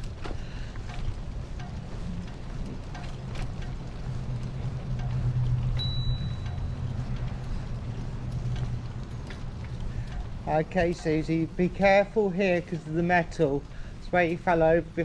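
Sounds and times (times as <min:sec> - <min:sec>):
tyres rolling and wind rumble: 0:00.0 - 0:15.0.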